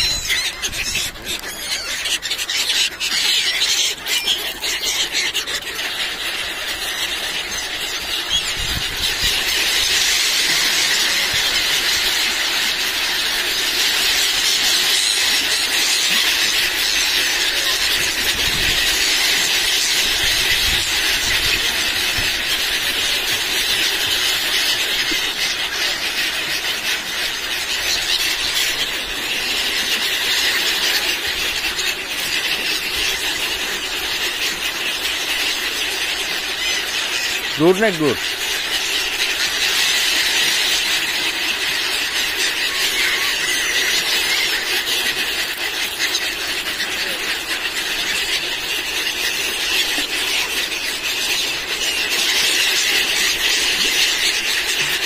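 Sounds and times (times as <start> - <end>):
gulls screaming: 0.0 - 55.0.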